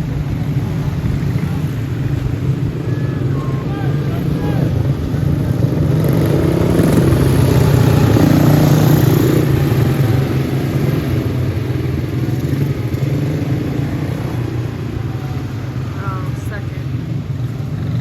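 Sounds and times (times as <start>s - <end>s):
go-kart engines droning: 0.0s - 18.0s.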